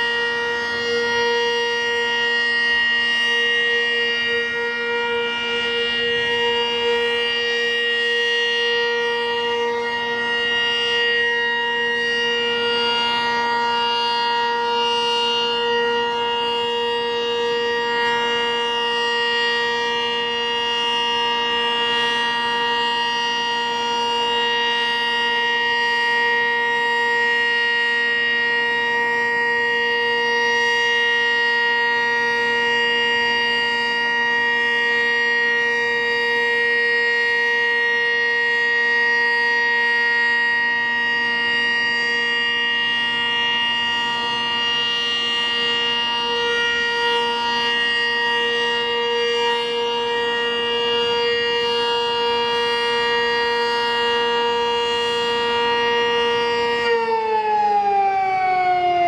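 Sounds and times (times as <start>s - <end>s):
warning siren steady tone: 0.0s - 59.0s.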